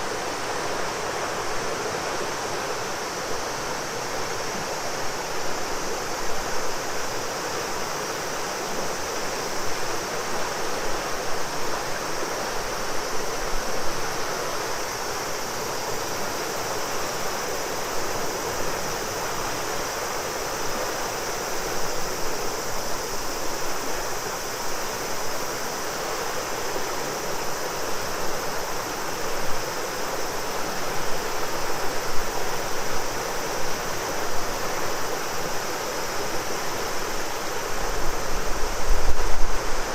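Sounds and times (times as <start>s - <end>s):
cicadas droning: 0.0s - 39.9s
river water flowing: 0.0s - 39.9s.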